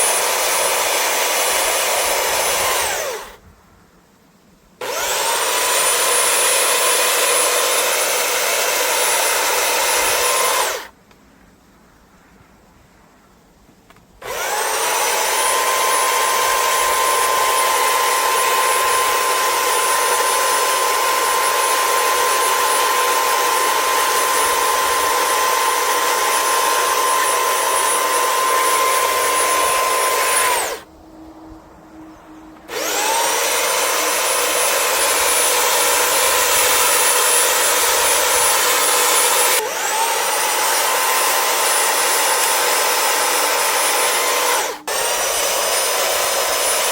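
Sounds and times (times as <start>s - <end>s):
power tool whining: 0.0s - 3.4s, 4.8s - 10.9s, 14.2s - 30.9s, 32.6s - 46.9s
wood cutting or sanding noise: 0.0s - 3.4s, 4.8s - 10.9s, 14.2s - 30.9s, 32.6s - 46.9s.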